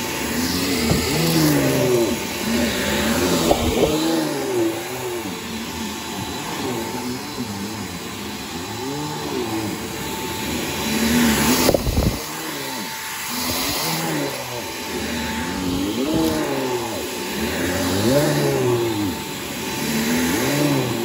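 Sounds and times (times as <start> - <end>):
vacuum cleaner running on carpet: 0.0 - 21.0.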